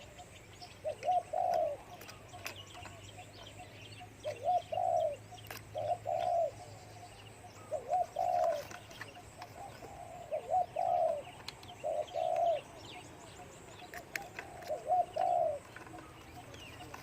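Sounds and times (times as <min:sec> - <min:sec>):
dove cooing: 0:00.0 - 0:17.0
small birds chirping faintly: 0:00.0 - 0:17.0.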